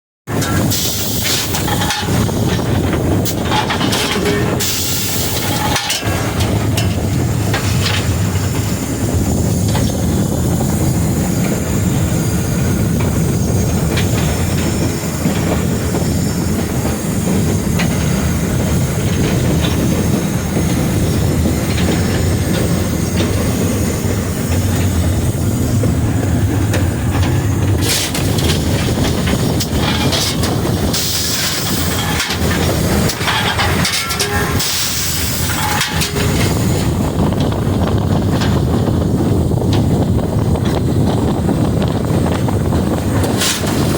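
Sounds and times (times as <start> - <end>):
steam locomotive rumbling: 0.3 - 43.9
wheels clattering on rails: 0.3 - 43.9
steam hissing: 0.5 - 43.9.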